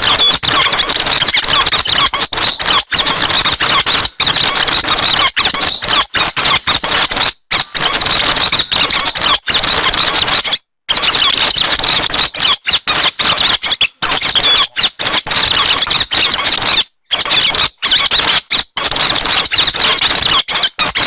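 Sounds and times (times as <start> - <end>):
bird chattering and twittering: 0.0 - 9.4, 10.2 - 18.3.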